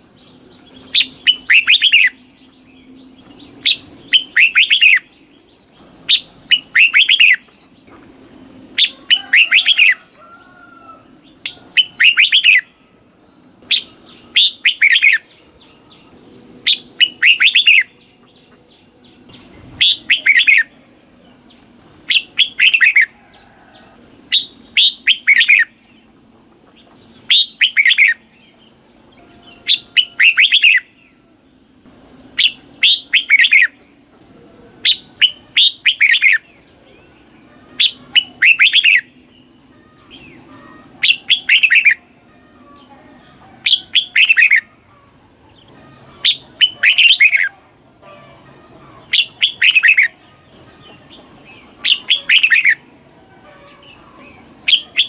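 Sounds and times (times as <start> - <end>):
bulbul singing: 0.0 - 55.0.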